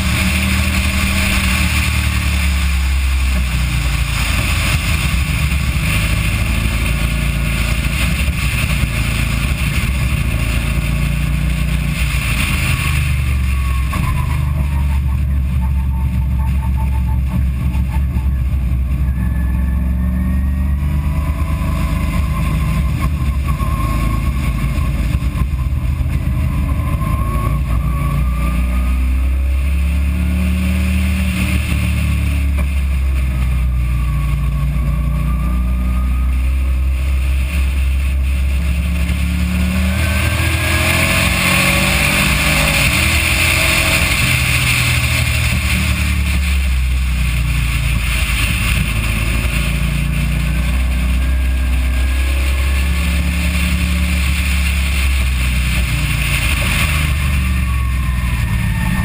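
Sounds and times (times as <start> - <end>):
car engine accelerating: 0.0 - 59.0
low rumble: 0.0 - 59.0
wind noise: 0.0 - 59.0.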